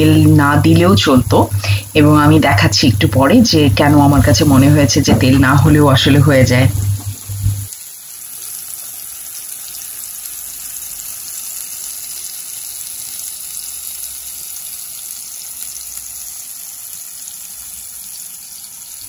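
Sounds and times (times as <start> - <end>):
burger patties sizzling: 0.0 - 19.0.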